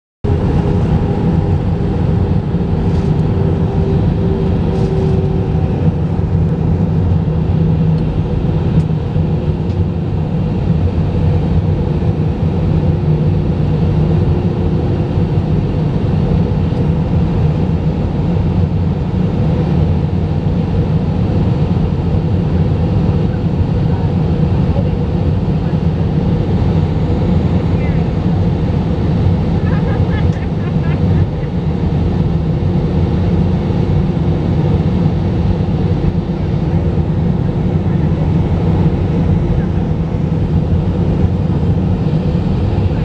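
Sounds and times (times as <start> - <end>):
airflow rush in cabin: 0.2 - 43.0
jet engine drone: 0.2 - 43.0.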